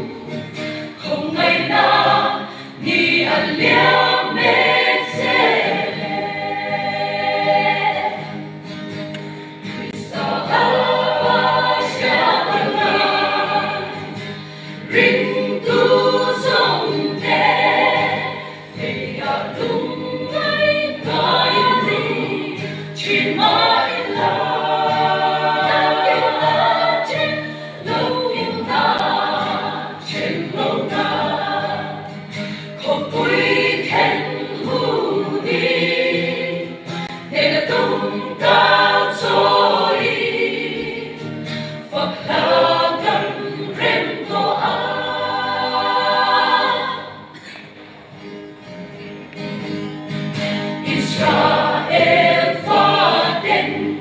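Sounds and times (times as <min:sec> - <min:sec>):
choir singing a hymn: 0:00.0 - 0:48.3, 0:50.5 - 0:54.0.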